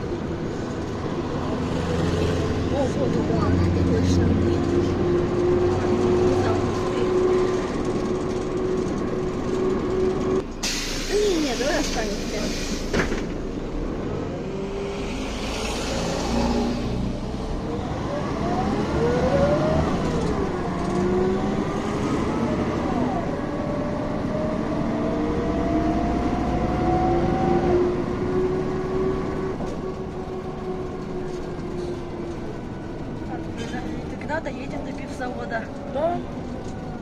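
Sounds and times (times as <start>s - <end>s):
bus drivetrain whine: 0.0s - 37.0s
bus engine running: 0.0s - 37.0s.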